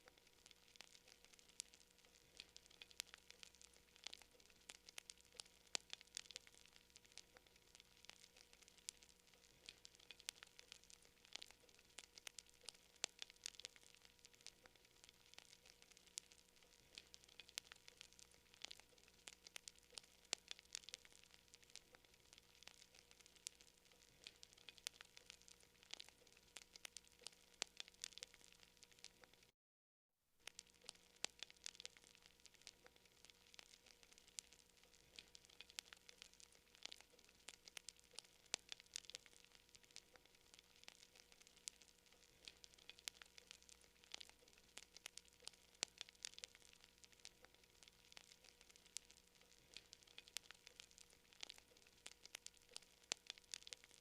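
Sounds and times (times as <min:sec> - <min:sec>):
campfire crackling: 0:00.0 - 0:29.5, 0:30.4 - 0:54.0.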